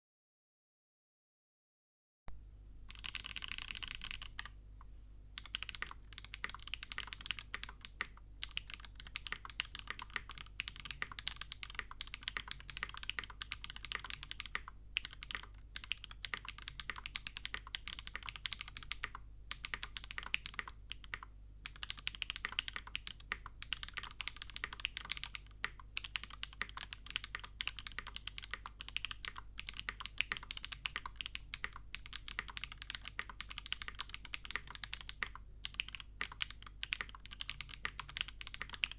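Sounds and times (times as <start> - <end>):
mechanical keyboard typing: 2.9 - 4.6, 5.4 - 38.9.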